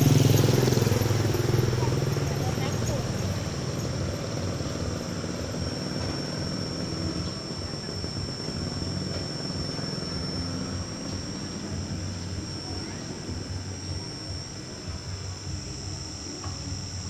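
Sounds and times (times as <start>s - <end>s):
electric motor whine: 0.0s - 17.0s
thin high tone: 0.0s - 17.0s.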